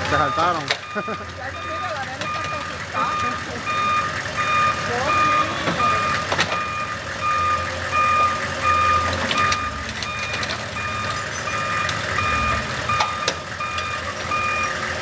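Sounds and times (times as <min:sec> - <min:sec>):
reversing alarm beeping: 0:00.0 - 0:14.9
diesel engine running: 0:00.0 - 0:15.0.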